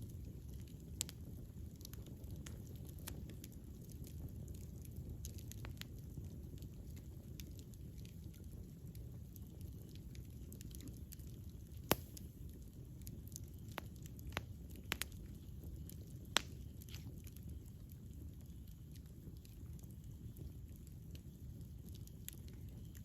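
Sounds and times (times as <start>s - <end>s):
campfire crackles and pops: 0.0s - 23.0s
flames rumbling: 0.0s - 23.0s.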